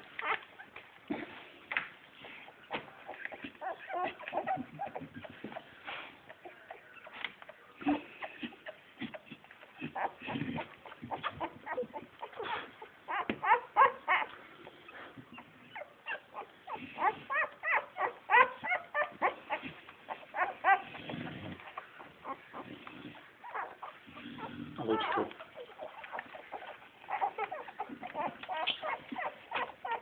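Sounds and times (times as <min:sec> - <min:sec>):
puppies squeaking and whimpering: 0:00.0 - 0:01.4, 0:02.1 - 0:30.0.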